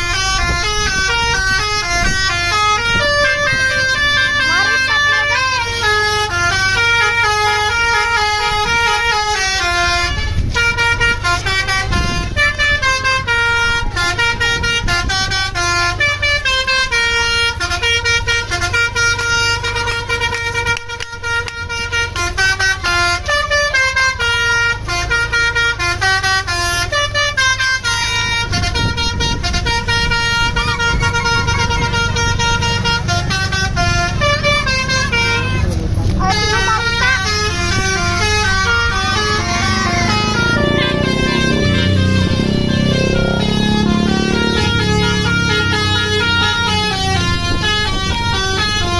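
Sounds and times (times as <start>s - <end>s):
bus engine running: 0.0s - 48.9s
bus horn playing melody: 0.0s - 48.9s.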